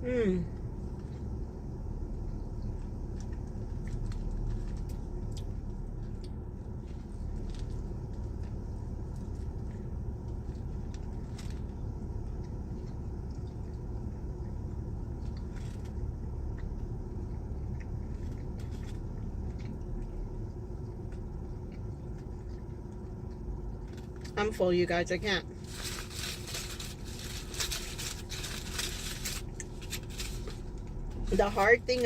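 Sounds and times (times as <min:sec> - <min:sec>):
low rumble inside a car: 0:00.0 - 0:32.0.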